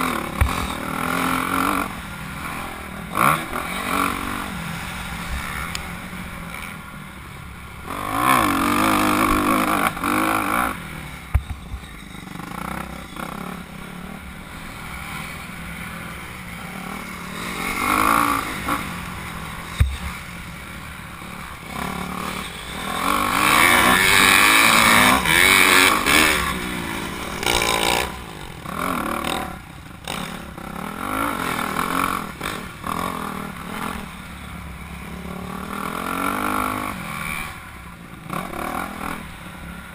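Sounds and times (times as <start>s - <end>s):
motocross bike engine revving: 0.0s - 6.9s, 7.7s - 39.9s.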